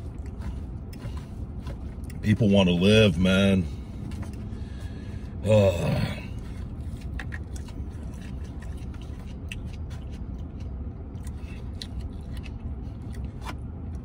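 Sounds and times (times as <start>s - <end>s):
man chewing: 0.0s - 2.2s, 3.8s - 14.0s
steady low rumble: 0.0s - 14.0s.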